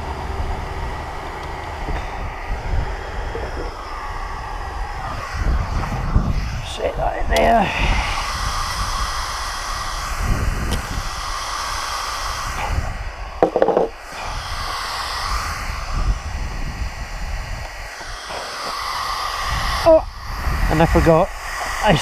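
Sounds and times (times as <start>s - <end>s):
wind rumble on microphone: 0.0s - 18.5s, 19.3s - 22.0s.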